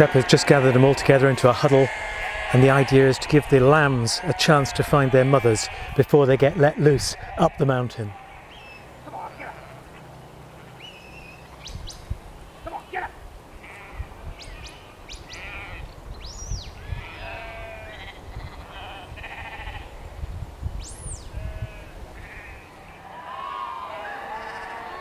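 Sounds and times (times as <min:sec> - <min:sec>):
sheep and lambs bleating: 0:00.0 - 0:10.0, 0:12.5 - 0:15.9, 0:16.8 - 0:20.0, 0:21.3 - 0:25.0.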